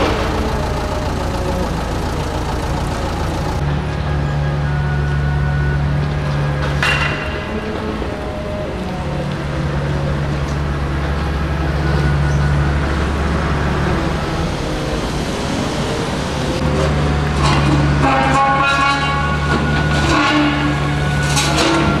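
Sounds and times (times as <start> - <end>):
heavy vehicle engine rumble: 0.0 - 22.0
road traffic: 0.0 - 22.0.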